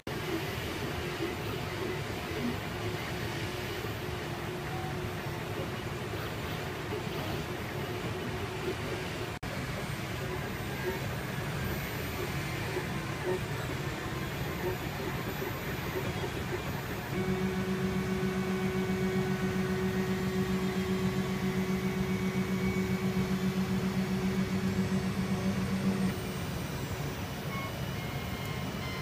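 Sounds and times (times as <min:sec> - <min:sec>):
printer steady whir: 0:00.0 - 0:29.0
fluttering motor hum: 0:00.1 - 0:29.0.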